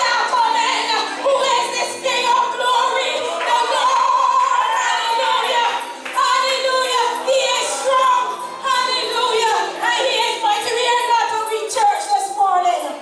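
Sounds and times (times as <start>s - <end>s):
voices singing in a church: 0.0s - 11.6s.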